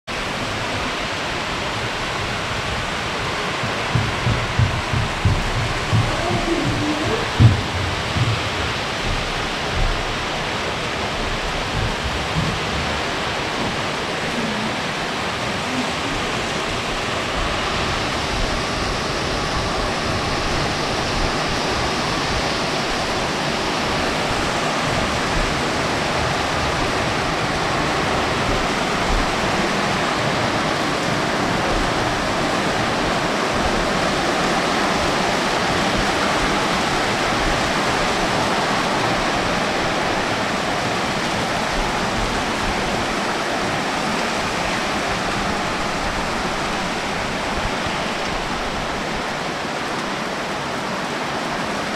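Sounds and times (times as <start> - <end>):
heavy rain and hail: 0.1 - 51.9.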